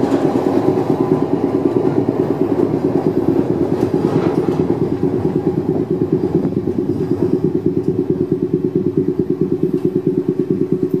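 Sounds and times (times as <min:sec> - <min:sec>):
streetcar machinery pulsing drone: 0:00.0 - 0:11.0.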